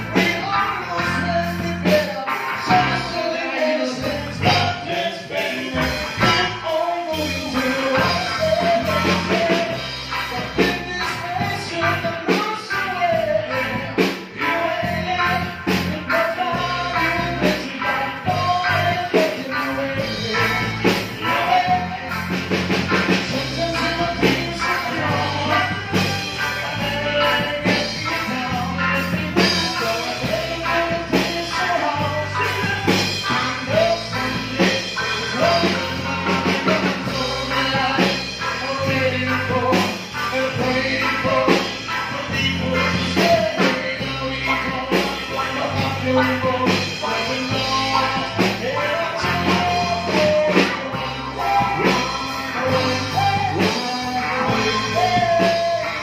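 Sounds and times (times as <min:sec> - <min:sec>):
bass notes: 0:00.0 - 0:56.0
drum kit beat: 0:00.0 - 0:56.0
electric guitar: 0:00.0 - 0:56.0
man singing: 0:00.0 - 0:56.0.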